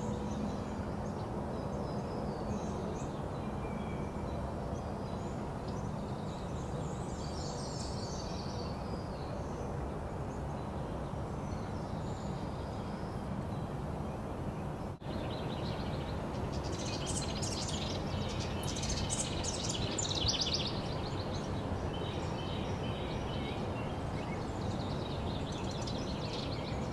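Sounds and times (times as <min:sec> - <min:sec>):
low outdoor background rumble: 0:00.0 - 0:26.9
wren song trills: 0:00.0 - 0:26.9.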